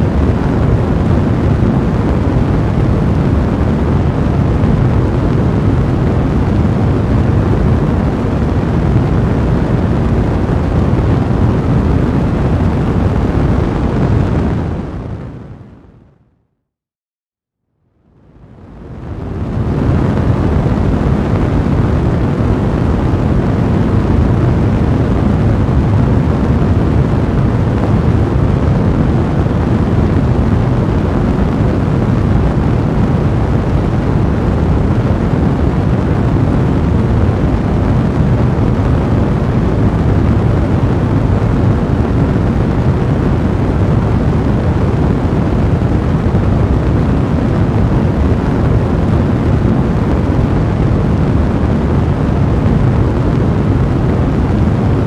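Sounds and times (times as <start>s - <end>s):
fire blazing with crackling: 0.0s - 15.4s, 18.5s - 55.0s.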